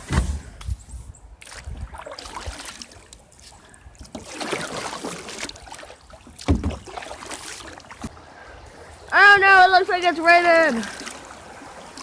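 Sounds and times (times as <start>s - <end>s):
water splashing around a kayak: 1.4s - 12.0s.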